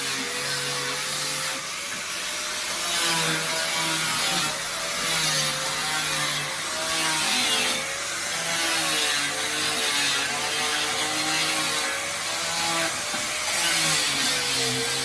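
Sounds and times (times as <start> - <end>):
tool motor hum: 0.0 - 15.0.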